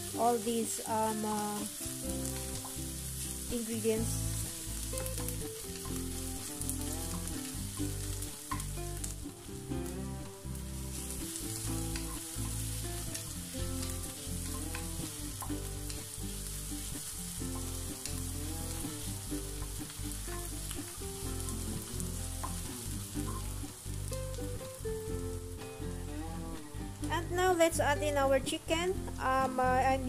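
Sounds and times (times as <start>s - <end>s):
low background music: 0.0s - 30.0s
onions sizzling in hot oil: 0.0s - 30.0s.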